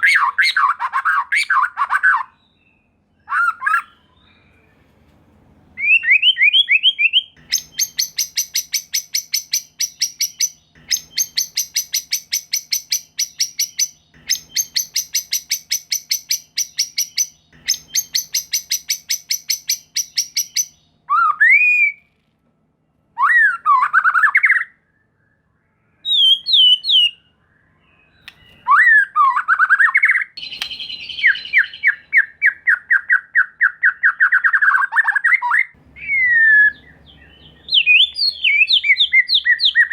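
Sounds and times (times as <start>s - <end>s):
bird trill: 0.0s - 4.8s, 5.8s - 22.1s, 23.1s - 39.9s
bird whistled phrases: 5.8s - 22.1s, 23.2s - 39.9s.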